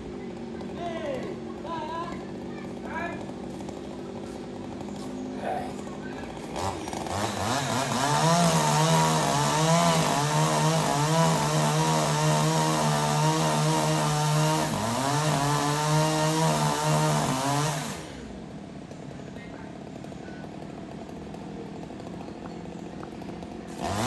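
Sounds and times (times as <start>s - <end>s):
chainsaw cutting wood: 0.0s - 18.4s, 20.4s - 24.0s.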